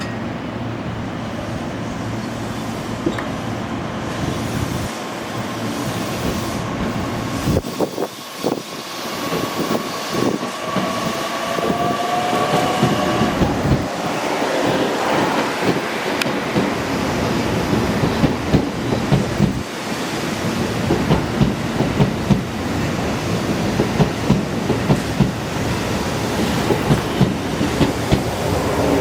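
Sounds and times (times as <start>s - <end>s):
electric train rumbling on rails: 0.0s - 29.0s.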